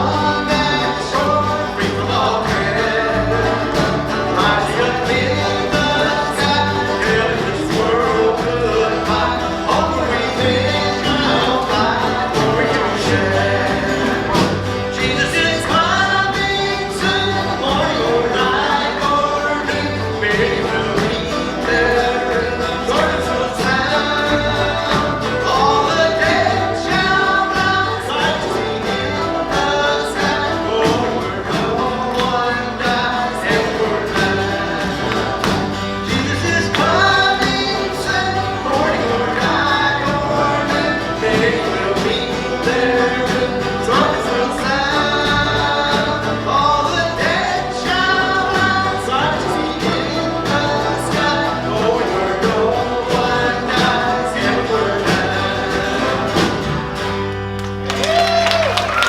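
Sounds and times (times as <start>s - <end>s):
gospel band playing: 0.0s - 59.0s
people singing: 0.0s - 59.0s.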